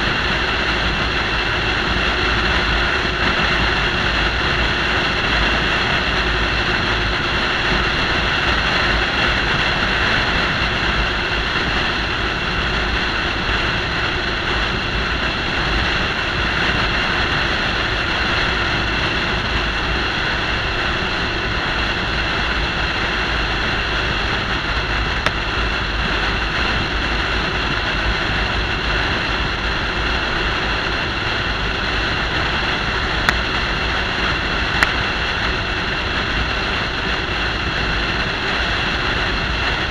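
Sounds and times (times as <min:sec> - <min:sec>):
truck road and engine noise: 0:00.0 - 0:39.9.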